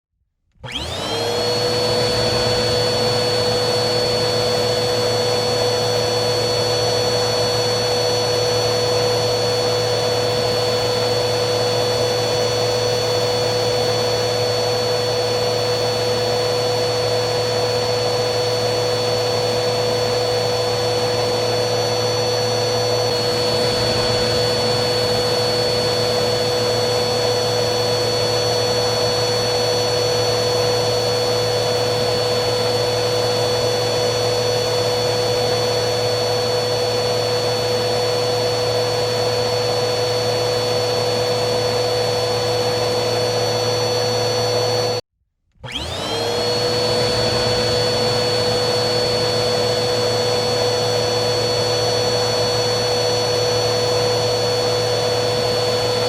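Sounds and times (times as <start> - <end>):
vacuum cleaner running: 0.5 - 56.0.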